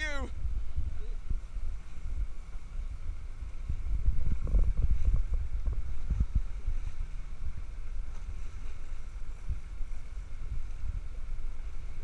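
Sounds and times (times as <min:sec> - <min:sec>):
boat engine rumble: 0:00.0 - 0:12.0
wind buffeting microphone: 0:00.0 - 0:12.0.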